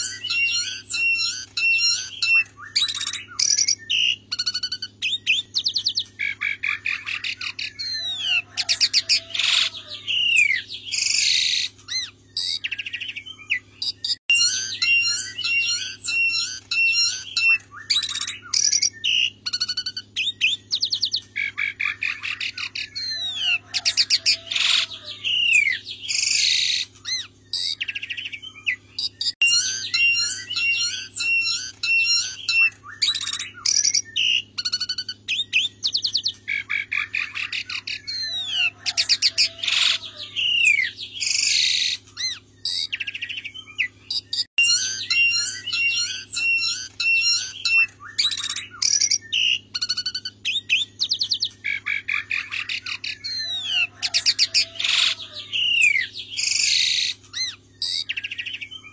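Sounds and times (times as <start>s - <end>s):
starling singing: 0.0s - 58.9s.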